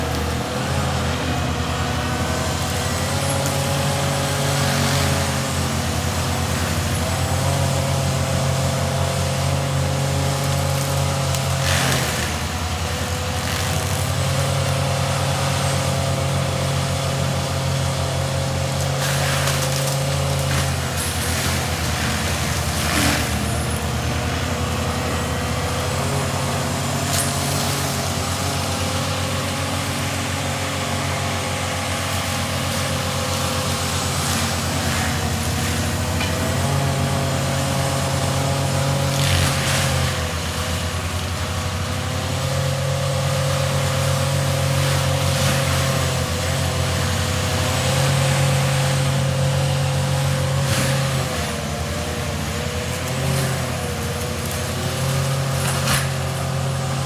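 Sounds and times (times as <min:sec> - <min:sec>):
diesel engine under load: 0:00.0 - 0:57.0
mulcher head whine: 0:00.0 - 0:57.0.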